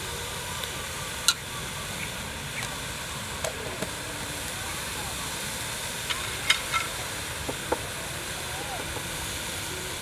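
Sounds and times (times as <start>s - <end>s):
steady hiss of pot cooking: 0.0s - 10.0s.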